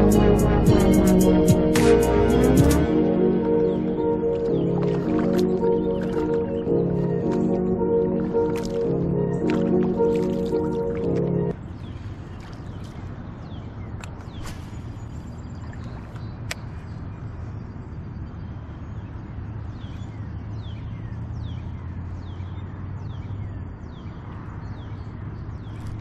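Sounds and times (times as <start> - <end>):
river rumble: 0.0 - 23.0
bird chirping: 0.0 - 26.0.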